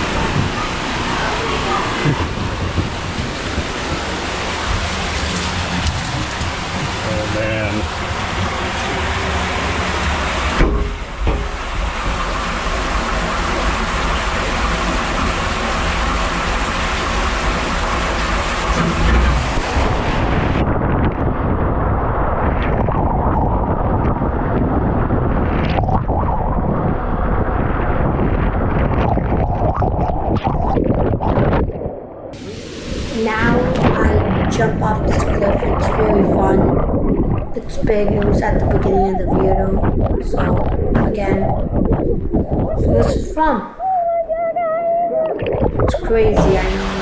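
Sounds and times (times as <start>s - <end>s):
rushing water and wind noise: 0.0s - 29.4s, 32.4s - 47.0s.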